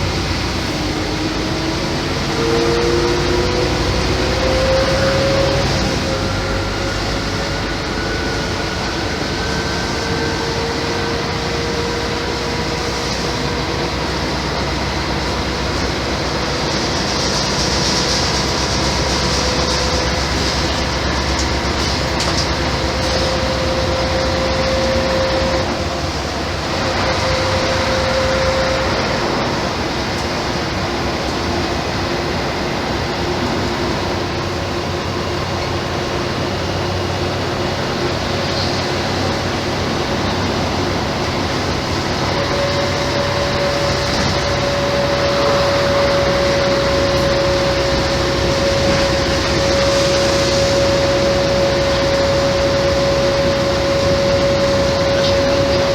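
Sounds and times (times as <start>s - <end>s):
bus running with faint whine: 0.0s - 55.9s.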